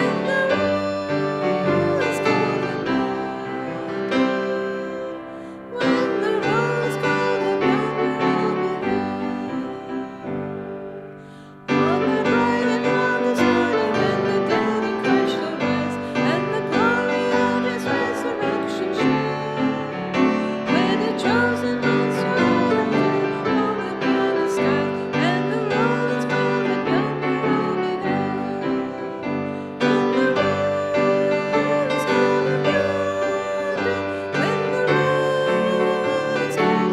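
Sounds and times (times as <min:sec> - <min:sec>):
voices singing a hymn: 0:00.0 - 0:10.4, 0:11.8 - 0:36.9
piano accompaniment: 0:00.0 - 0:36.9.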